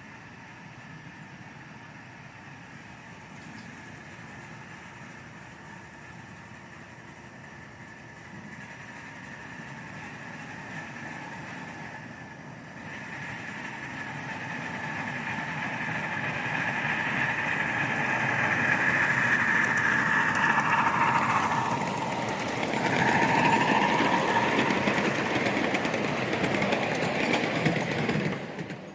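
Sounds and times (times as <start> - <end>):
miniature train running on track: 0.0 - 28.9.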